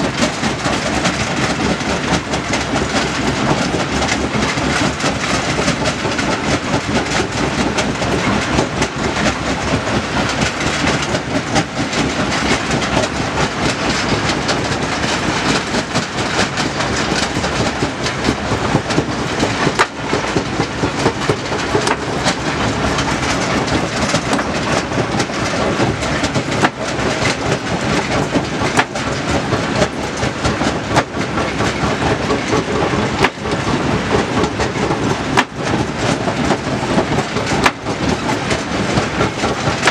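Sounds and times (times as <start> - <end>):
stone-handling machinery clattering: 0.0 - 39.9.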